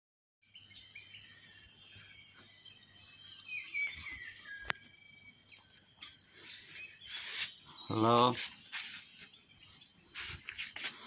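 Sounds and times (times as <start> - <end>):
birds calling: 0.5 - 11.0.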